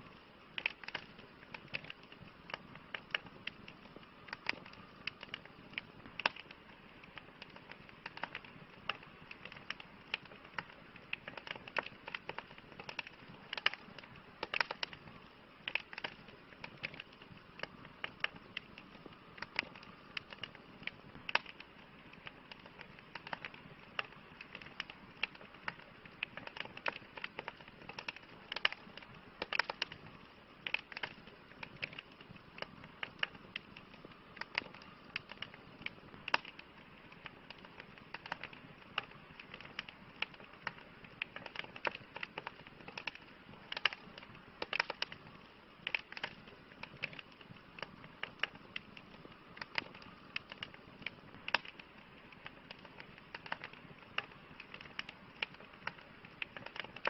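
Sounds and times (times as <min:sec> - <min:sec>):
campfire crackling and popping: 0:00.0 - 0:57.0
flames hissing: 0:00.0 - 0:57.0.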